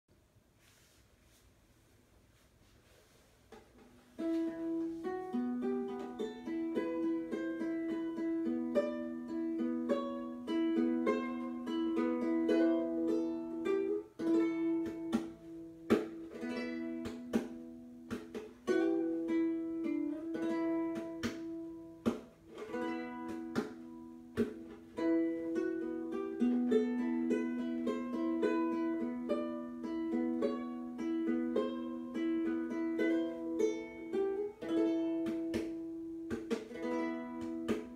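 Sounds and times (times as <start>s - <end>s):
plucked string instrument melody: 4.1s - 37.9s.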